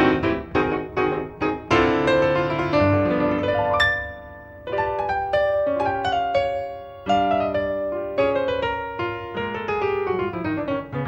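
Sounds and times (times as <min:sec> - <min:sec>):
solo piano music: 0:00.0 - 0:11.0.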